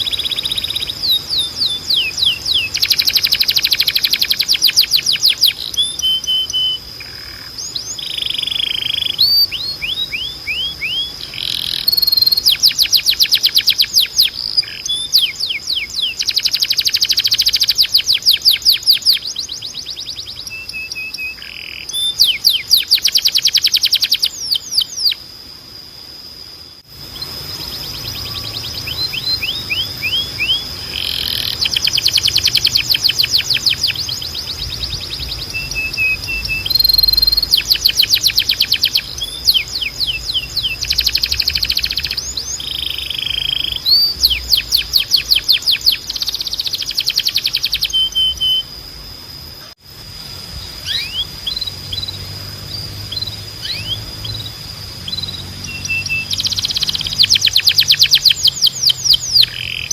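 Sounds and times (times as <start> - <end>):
canary singing trills: 0.0 - 49.8, 50.5 - 59.9.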